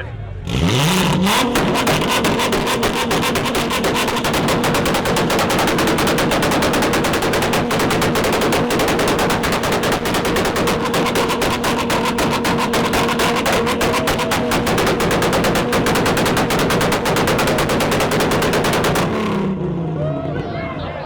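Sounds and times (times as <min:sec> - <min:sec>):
car engine bouncing off rev limiter: 0:00.5 - 0:19.9
exhaust pops and bangs: 0:01.0 - 0:19.6.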